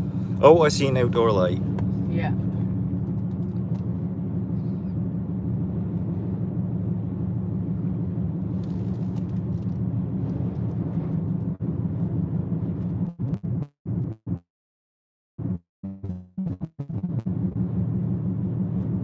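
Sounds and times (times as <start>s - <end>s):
car interior road rumble: 0.0s - 14.2s, 16.6s - 19.0s.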